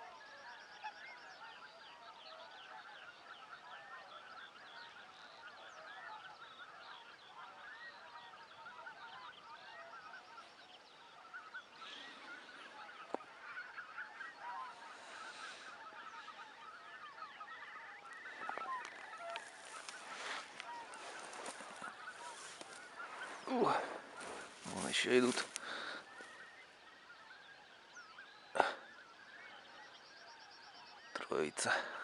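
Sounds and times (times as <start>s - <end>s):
geese and swans honking: 0.0s - 32.0s.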